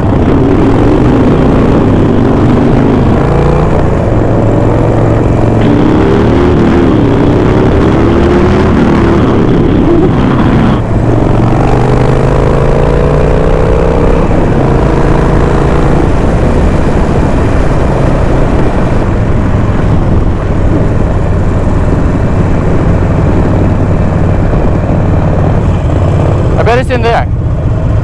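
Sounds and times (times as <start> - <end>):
motorcycle engine running: 0.0 - 28.0
wind rush on microphone: 0.0 - 28.0.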